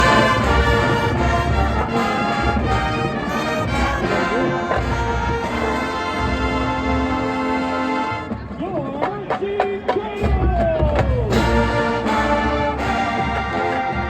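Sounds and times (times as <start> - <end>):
marching band brass fanfare: 0.0 - 8.5, 10.2 - 14.0.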